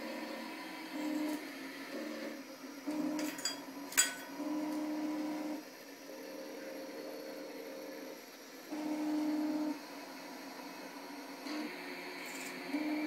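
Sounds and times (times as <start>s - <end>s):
faint motor hum: 0.0s - 13.0s.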